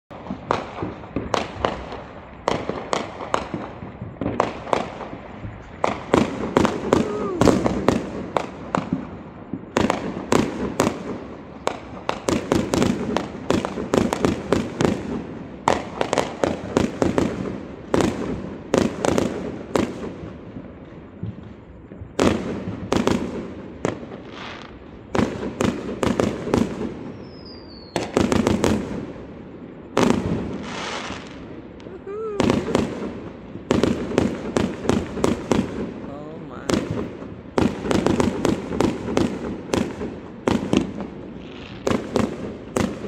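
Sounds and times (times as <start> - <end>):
fireworks bangs and crackles: 0.1 - 43.0.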